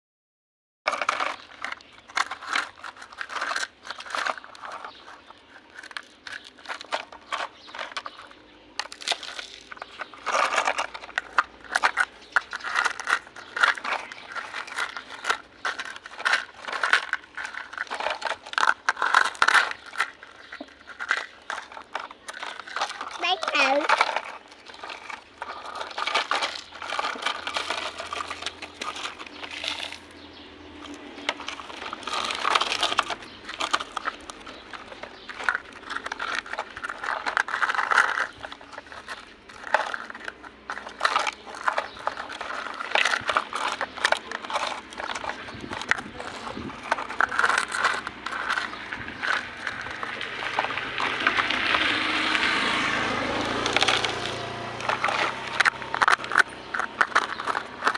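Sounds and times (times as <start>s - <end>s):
small toys clicking and rattling: 0.9s - 57.9s.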